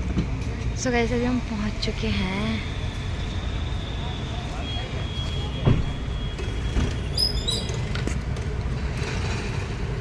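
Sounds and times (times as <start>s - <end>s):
motor vehicle rumble: 0.0s - 10.0s.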